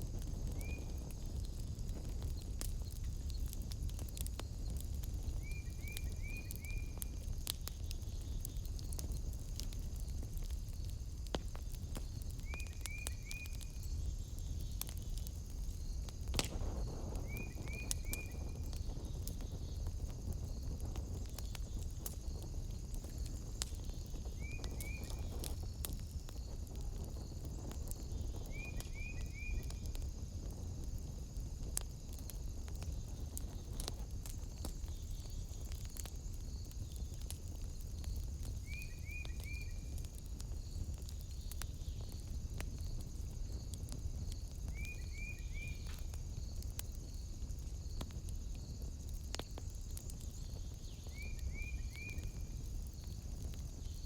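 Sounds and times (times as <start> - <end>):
insects trilling: 0.0 - 54.0
wood fire crackling: 0.0 - 54.0.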